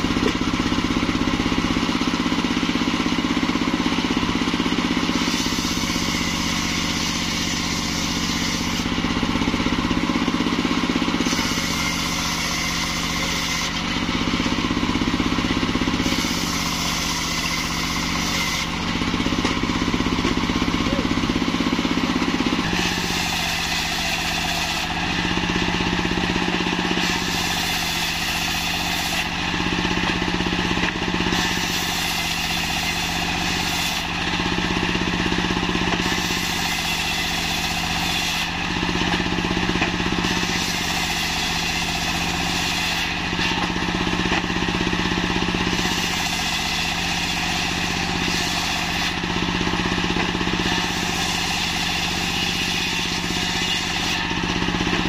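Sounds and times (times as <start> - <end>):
diesel engine running: 0.0 - 55.0
saw blade cutting wood: 0.0 - 55.0.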